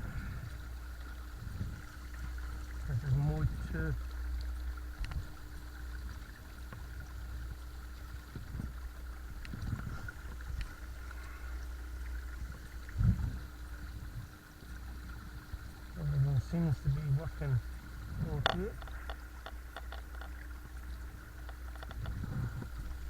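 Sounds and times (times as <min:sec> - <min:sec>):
electric trolling motor humming: 0:00.0 - 0:23.0
water sloshing against hull: 0:00.0 - 0:23.0.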